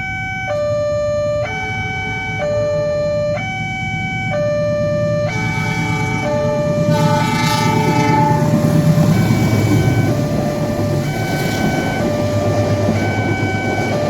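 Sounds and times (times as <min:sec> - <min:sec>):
steady tone: 0:00.0 - 0:14.0
two-tone warning siren wailing: 0:00.0 - 0:14.0
approaching train rumble and hiss: 0:01.5 - 0:14.0.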